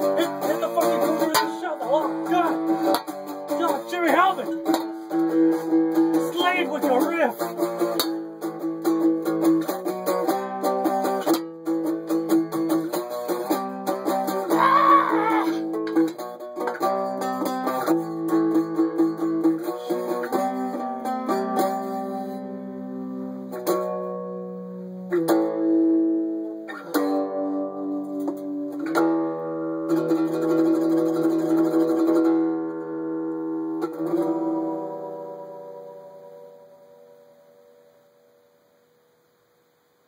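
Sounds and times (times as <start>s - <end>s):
solo guitar riff: 0.0s - 38.8s.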